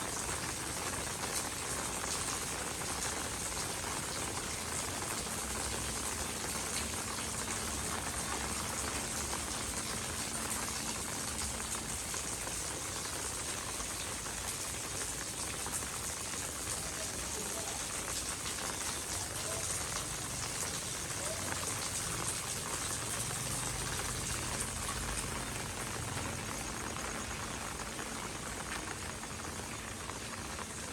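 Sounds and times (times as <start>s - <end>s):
rain on pavement: 0.0s - 30.9s.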